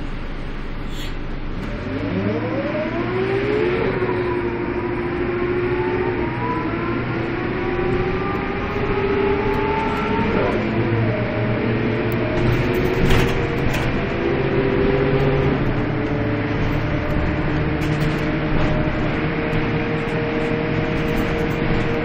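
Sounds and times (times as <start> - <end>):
bus diesel engine accelerating: 0.0 - 22.0.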